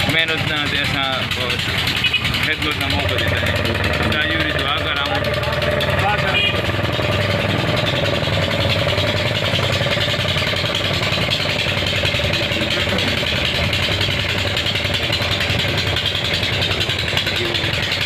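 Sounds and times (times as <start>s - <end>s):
engine humming with wavering whine: 0.0s - 18.0s.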